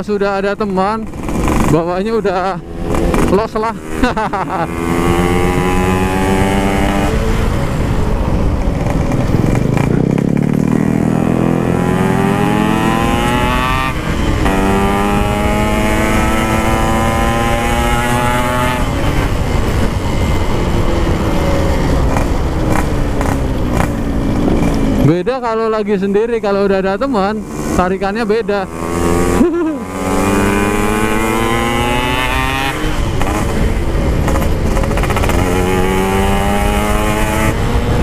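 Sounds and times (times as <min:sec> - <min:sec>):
two-stroke motorcycle accelerating: 0:00.0 - 0:38.0.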